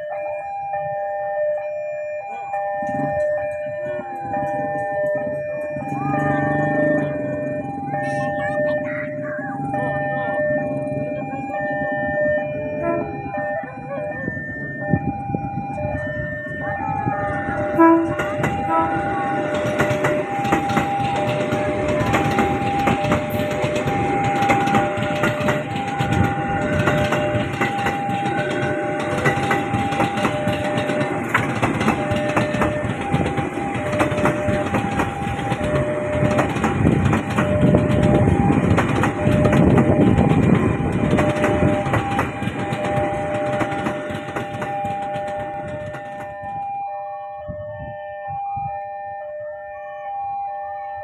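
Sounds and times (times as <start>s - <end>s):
level-crossing alarm two tones: 0.0s - 51.0s
train rumbling across bridge: 2.5s - 49.0s.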